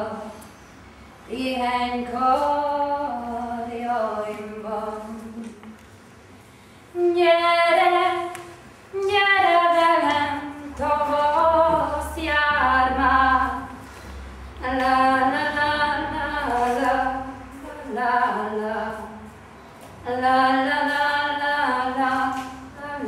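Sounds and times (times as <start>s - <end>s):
woman singing unaccompanied: 1.3s - 5.7s, 7.0s - 13.8s, 14.6s - 19.3s, 20.0s - 23.0s.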